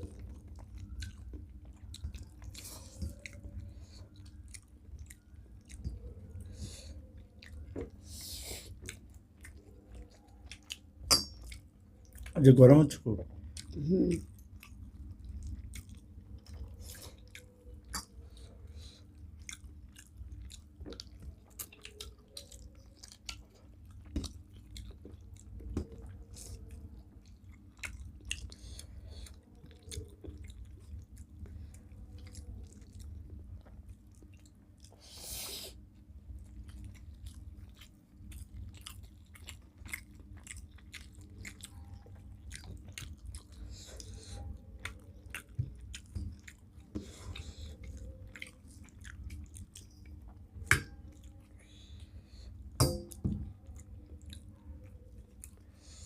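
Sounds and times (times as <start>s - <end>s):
people chewing food: 0.0s - 56.0s.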